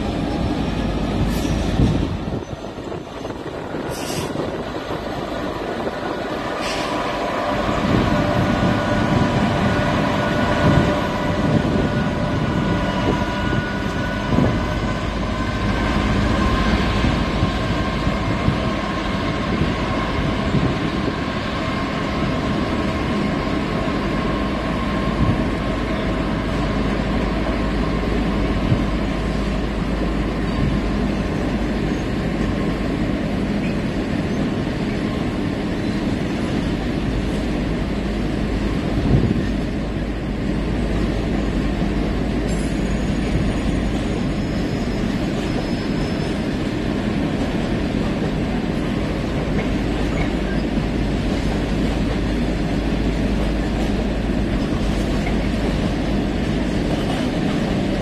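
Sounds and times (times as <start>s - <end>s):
freight train rumbling over rails: 0.0s - 58.0s.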